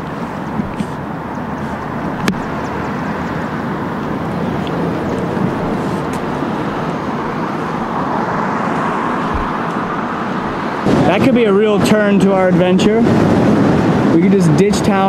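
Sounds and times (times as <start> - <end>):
cars passing on street: 0.0 - 15.0.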